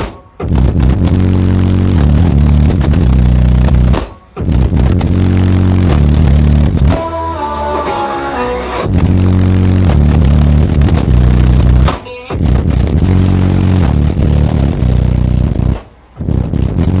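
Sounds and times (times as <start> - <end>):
loud bass-heavy music from subwoofers: 0.0 - 17.0.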